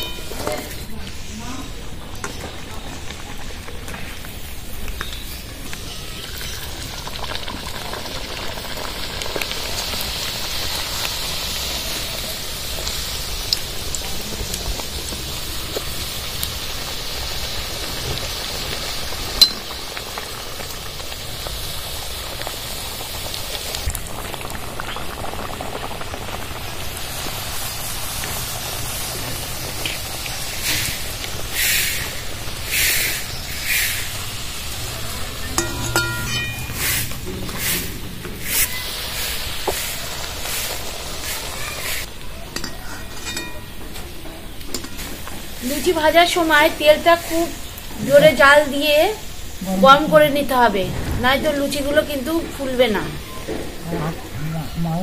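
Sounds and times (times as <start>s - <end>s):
oil sizzling while deep-frying: 0.0s - 55.0s.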